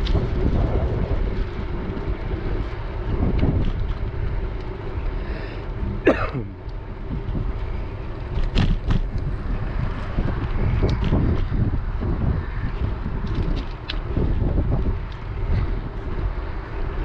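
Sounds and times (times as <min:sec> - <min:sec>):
bicycle tyre rumble: 0:00.0 - 0:17.0
wind buffeting microphone: 0:00.0 - 0:17.0.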